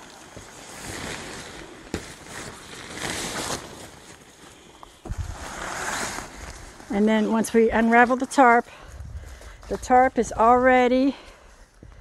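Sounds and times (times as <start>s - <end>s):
tarp fabric rustling: 0.0s - 11.8s.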